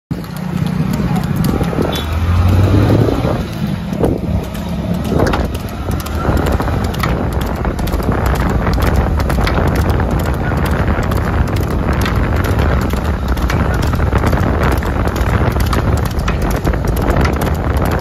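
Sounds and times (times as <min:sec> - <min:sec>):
engine hum: 0:00.1 - 0:18.0
knocks and clatter: 0:00.1 - 0:18.0
wind buffeting microphone: 0:00.1 - 0:18.0.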